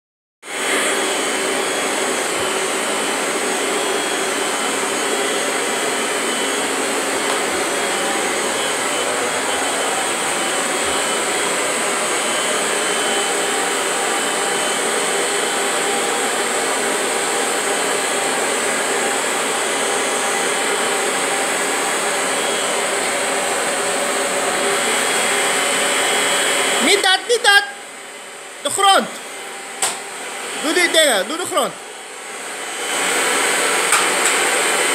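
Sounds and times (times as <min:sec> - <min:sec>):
vacuum cleaner running: 0:00.4 - 0:34.9.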